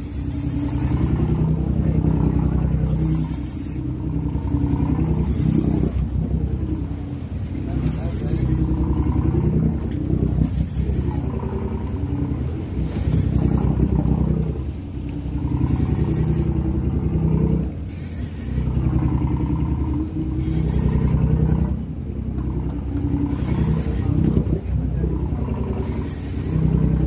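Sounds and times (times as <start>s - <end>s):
boat engine running: 0.0s - 27.0s
water hissing: 0.0s - 27.0s.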